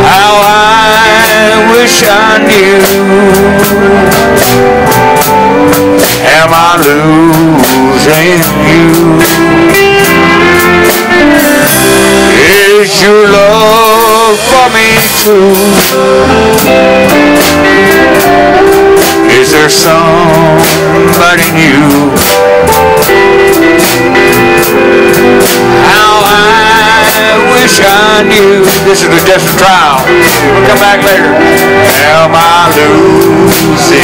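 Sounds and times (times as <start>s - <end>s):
man singing: 0.0s - 5.2s, 6.0s - 16.7s, 17.8s - 23.6s, 24.6s - 34.0s
country band playing: 0.0s - 34.0s
drum kit with hi-hat: 0.0s - 34.0s
electric guitar: 0.0s - 34.0s.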